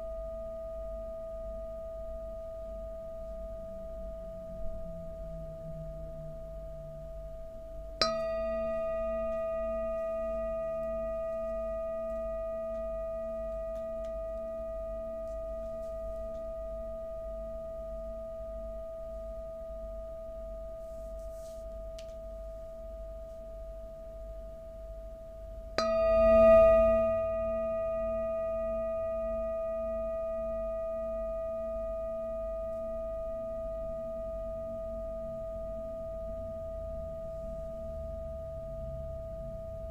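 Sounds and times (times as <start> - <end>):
metal singing bowl ringing: 0.0 - 39.9.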